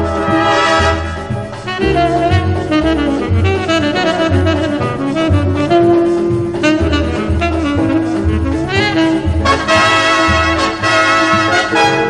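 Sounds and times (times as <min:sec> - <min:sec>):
horn melody: 0:00.0 - 0:12.0
repeating bass beat: 0:00.0 - 0:12.0.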